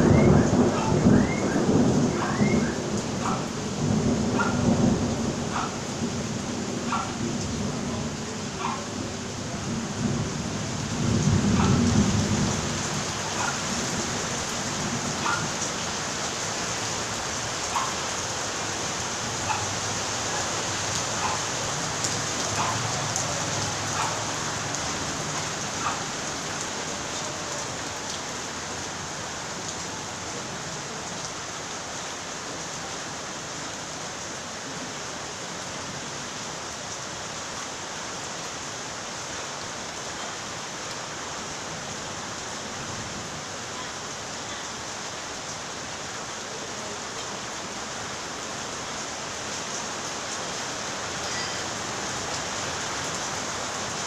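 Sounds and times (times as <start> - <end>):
rain drops ticking: 0.0 - 35.9, 36.6 - 54.0
steady rain hiss: 0.0 - 54.0.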